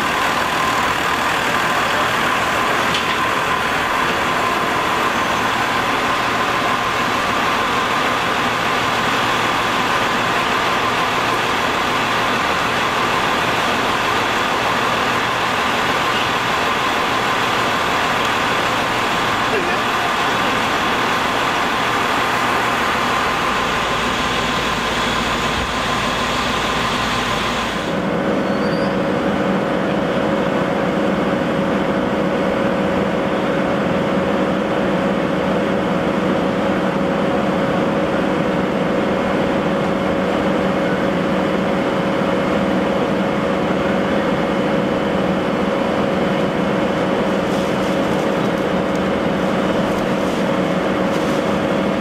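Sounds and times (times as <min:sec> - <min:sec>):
locomotive diesel engine drone: 0:00.0 - 0:52.0
rail vehicle running noise: 0:00.0 - 0:52.0.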